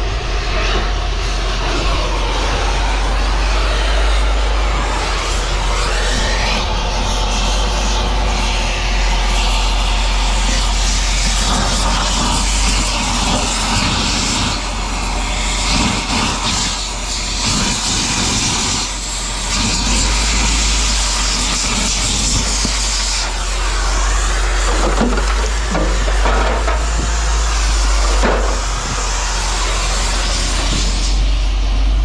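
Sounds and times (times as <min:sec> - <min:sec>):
engine-like rumble: 0:00.0 - 0:32.0
hiss: 0:00.0 - 0:32.0.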